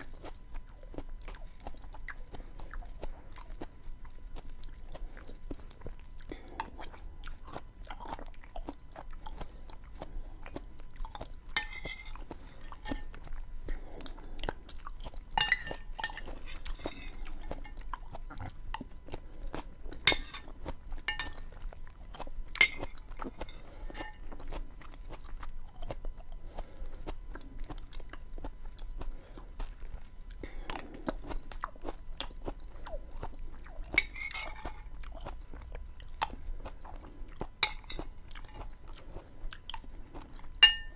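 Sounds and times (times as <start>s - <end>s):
close chewing with mouth crackles: 0.0s - 40.9s.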